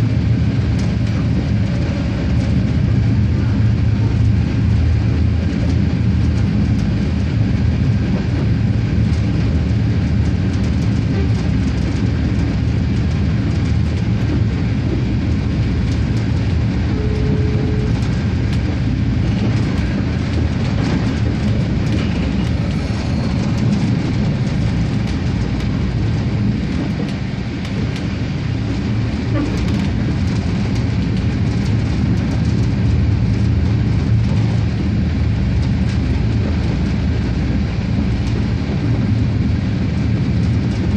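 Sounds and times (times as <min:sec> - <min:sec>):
diesel railcar drone: 0:00.0 - 0:40.9.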